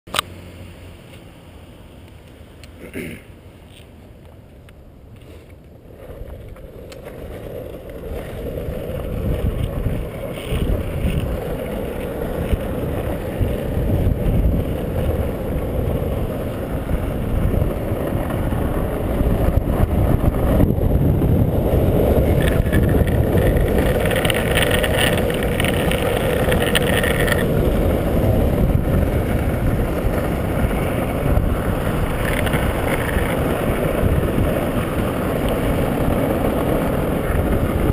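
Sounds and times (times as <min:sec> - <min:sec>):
longboard wheels rolling on asphalt: 0:00.1 - 0:37.9
wind rushing over camera: 0:03.6 - 0:37.9.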